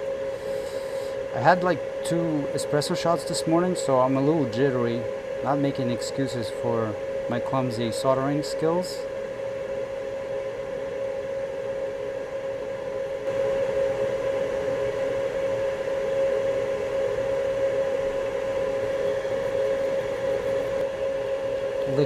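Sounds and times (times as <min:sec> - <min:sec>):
small fan motor whining: 0:00.0 - 0:22.0.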